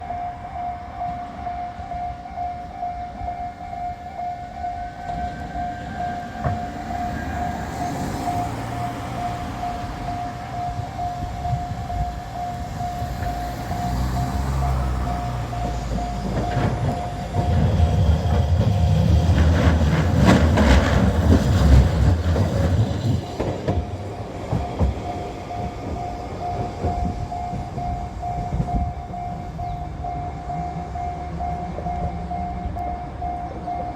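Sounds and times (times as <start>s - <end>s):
level crossing warning bell: 0.0s - 33.9s
tram wheels rumbling on rails: 0.0s - 33.9s.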